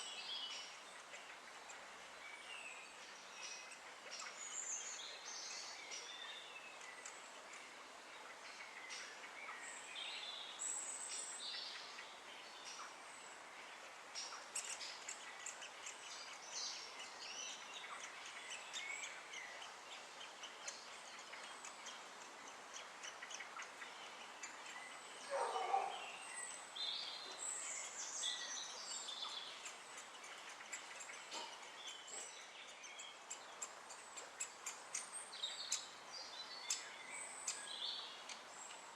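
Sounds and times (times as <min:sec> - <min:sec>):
birds chirping and calling: 0:00.0 - 0:38.9
steady background hiss: 0:00.0 - 0:38.9.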